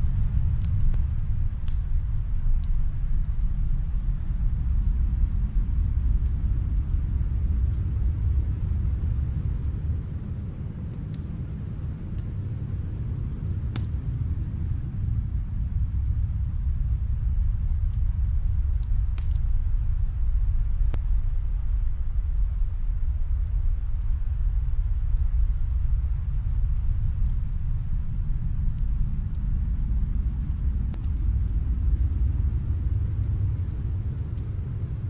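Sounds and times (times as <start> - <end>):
deep low rumble: 0.0 - 35.0
fire pops and snaps: 0.0 - 35.0
wood fire crackling: 0.0 - 35.0.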